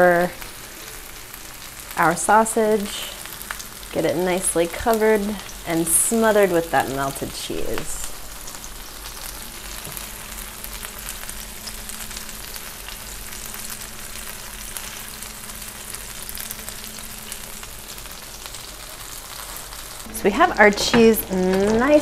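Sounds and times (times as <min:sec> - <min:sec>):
food sizzling on griddle: 0:00.0 - 0:22.0.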